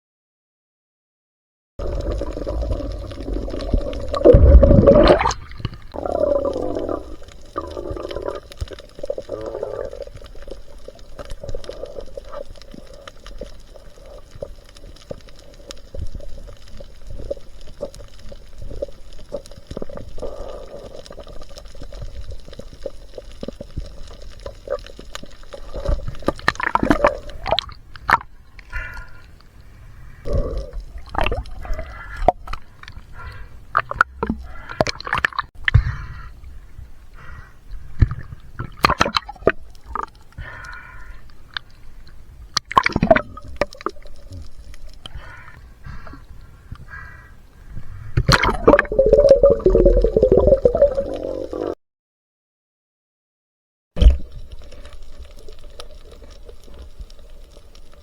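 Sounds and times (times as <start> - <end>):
water splashing and gurgling: 1.8 - 29.4, 30.2 - 37.0, 37.7 - 46.9, 47.7 - 51.8, 54.0 - 58.0.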